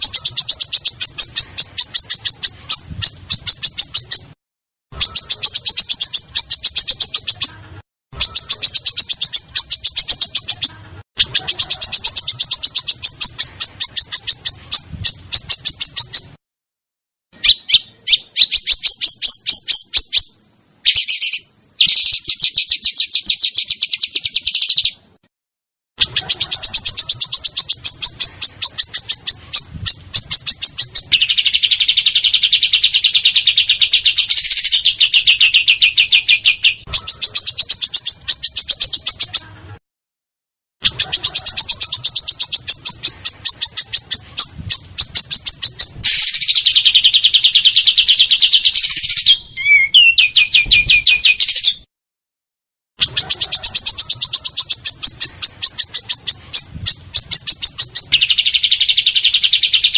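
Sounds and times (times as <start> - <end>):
songbird singing rolling trills: 0.0 - 4.3, 5.0 - 7.6, 8.2 - 16.3, 17.4 - 25.0, 26.0 - 39.5, 40.9 - 51.9, 53.0 - 59.9.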